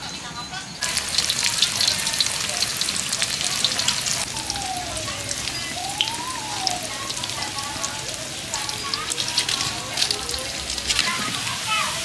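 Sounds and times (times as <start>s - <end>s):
battered fruit frying in hot oil: 0.8s - 12.0s.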